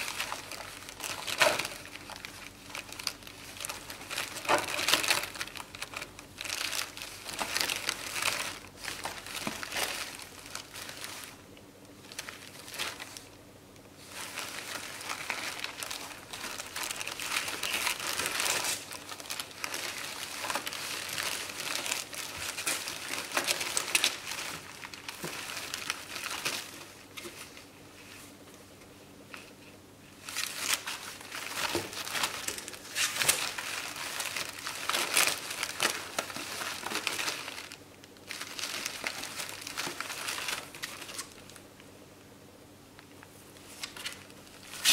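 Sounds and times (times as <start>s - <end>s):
bubble wrap crinkling: 0.0s - 28.5s, 29.3s - 41.9s, 42.9s - 44.9s.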